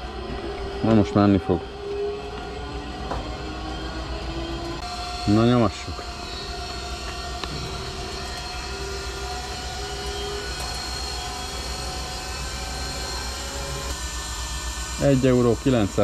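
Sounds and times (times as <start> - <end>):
fuel dispenser hum and hiss: 2.3 - 16.0.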